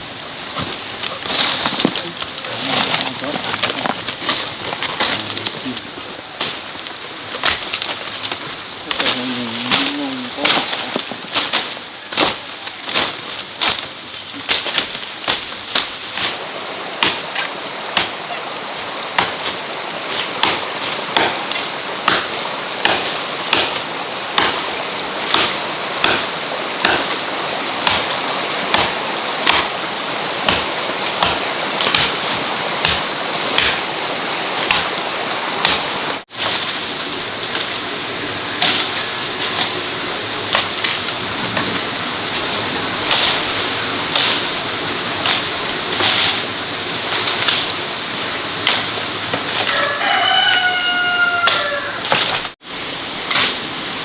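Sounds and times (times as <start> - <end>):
steady rushing noise: 0.0 - 49.7.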